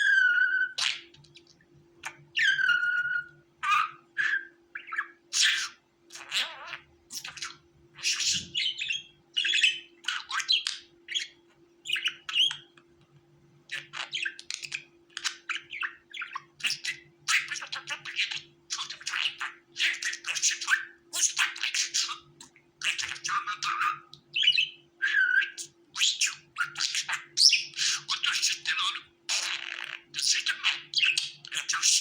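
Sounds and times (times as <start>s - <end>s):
budgerigars chirping and chattering: 0.0s - 12.8s, 13.7s - 32.0s.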